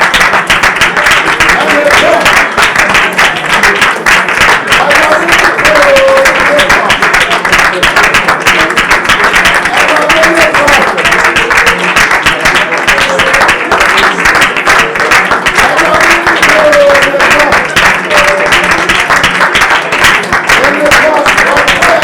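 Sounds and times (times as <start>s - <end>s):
hand-clapping: 0.0s - 22.0s.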